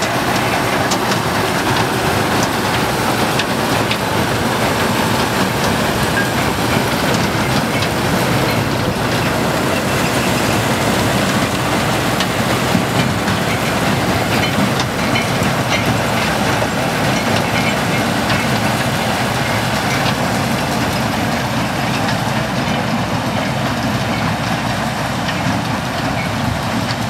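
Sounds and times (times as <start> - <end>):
harvester conveyors rattling: 0.0 - 27.0
tractor engine running: 0.0 - 27.0.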